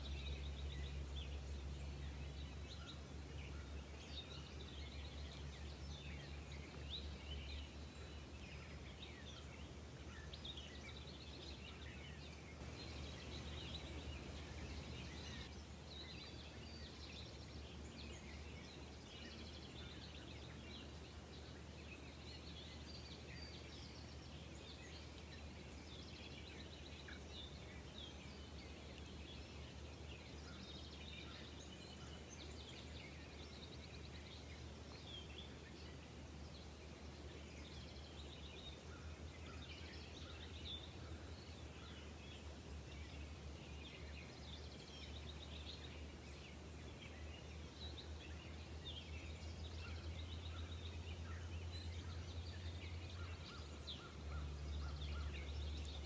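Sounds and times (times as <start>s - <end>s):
faint low hum: 0.0s - 56.0s
songbirds chirping and trilling: 0.0s - 56.0s.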